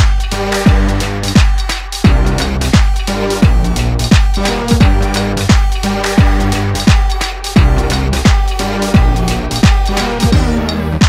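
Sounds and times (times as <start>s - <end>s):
deep kick drum beating: 0.0s - 10.7s
electronic music: 0.0s - 11.0s.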